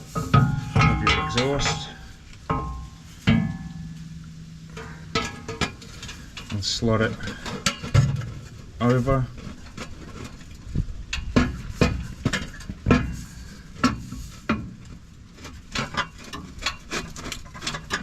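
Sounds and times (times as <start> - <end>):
metal pipe knocks and clanks: 0.0 - 10.5, 11.1 - 18.0.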